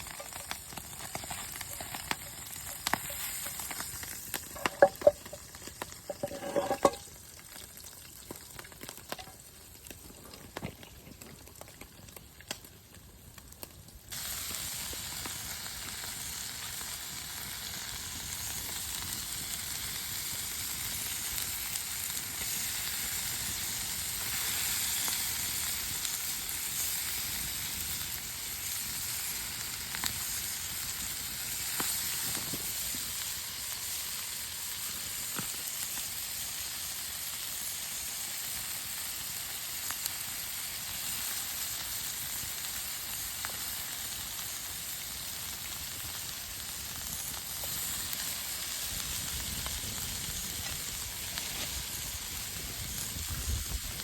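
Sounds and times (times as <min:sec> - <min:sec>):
food sizzling in a hot pan: 0:00.0 - 0:10.1, 0:14.1 - 0:54.0.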